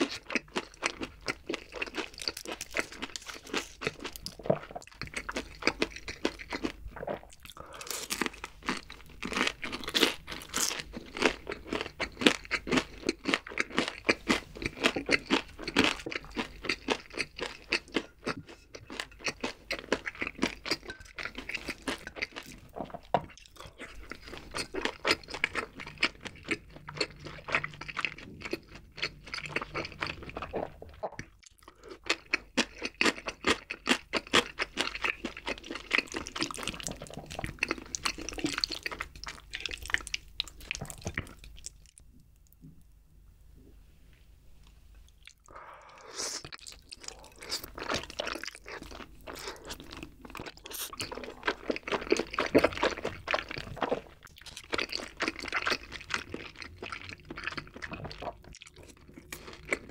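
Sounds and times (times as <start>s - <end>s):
crunchy chewing: 0.0s - 42.6s, 45.1s - 59.9s.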